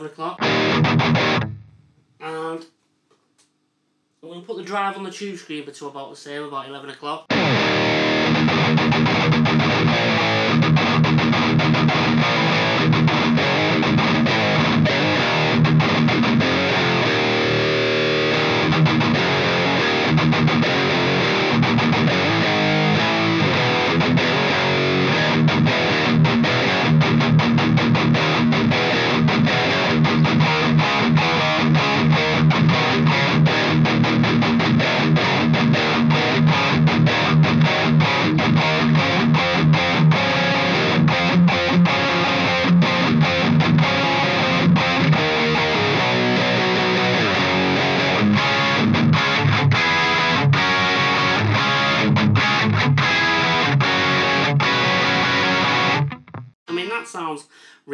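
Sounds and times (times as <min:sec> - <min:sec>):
overdriven electric guitar riffs: 0:00.0 - 0:01.8, 0:07.3 - 0:56.6.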